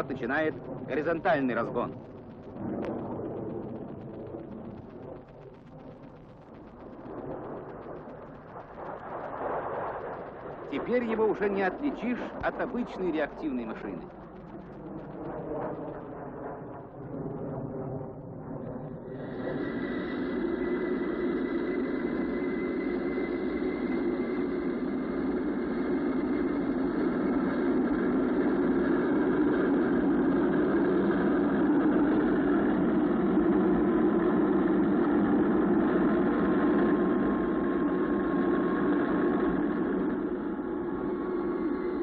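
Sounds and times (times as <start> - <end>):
faint high whine: 0.0 - 42.0
jet engine rumble: 0.0 - 42.0.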